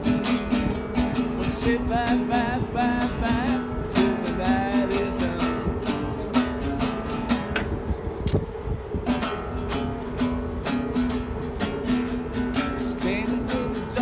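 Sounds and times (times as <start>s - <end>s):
acoustic guitar strumming: 0.0s - 8.2s, 8.8s - 14.0s.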